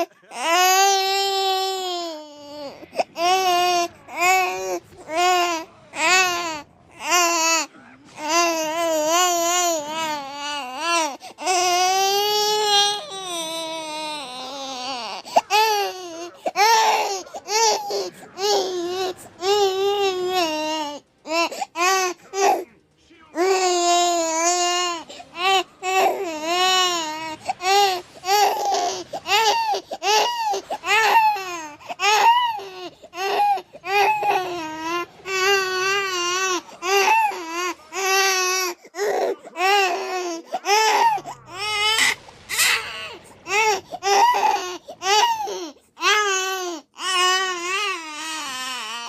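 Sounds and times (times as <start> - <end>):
baby crying: 0.0 - 22.6, 23.3 - 49.0.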